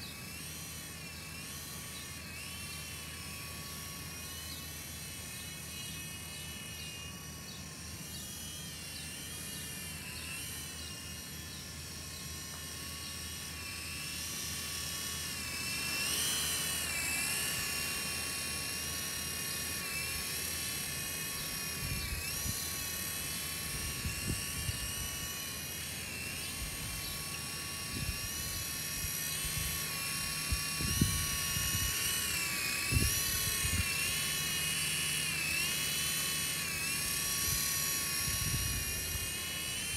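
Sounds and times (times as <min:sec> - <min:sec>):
helicopter motor and rotor whine: 0:00.0 - 0:39.9.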